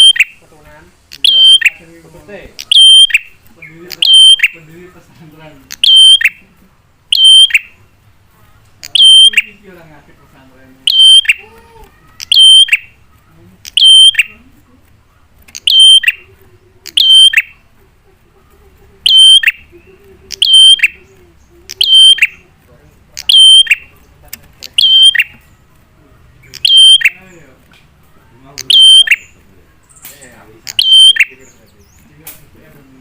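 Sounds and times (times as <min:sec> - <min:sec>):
bird calling: 0:00.0 - 0:33.0.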